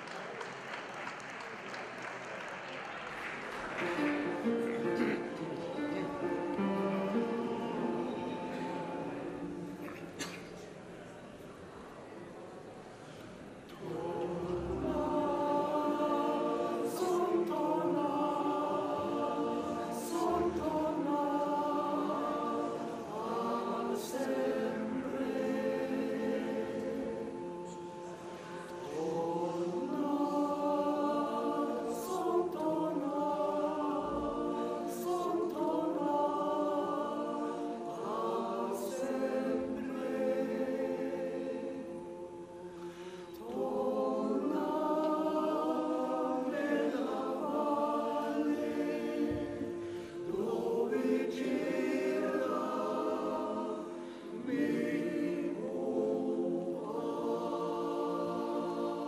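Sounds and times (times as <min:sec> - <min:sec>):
men's choir singing: 0:03.8 - 0:10.3, 0:13.7 - 0:59.0.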